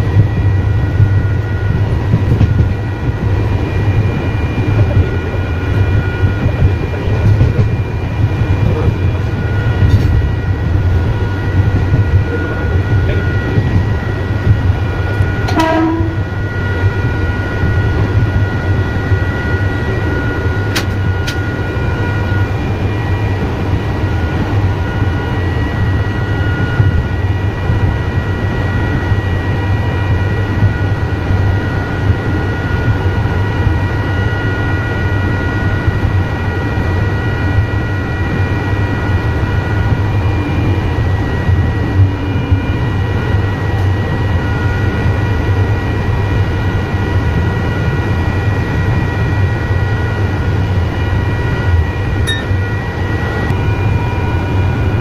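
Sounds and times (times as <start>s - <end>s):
high electric whine: 0.0s - 55.0s
train rumble: 0.0s - 55.0s.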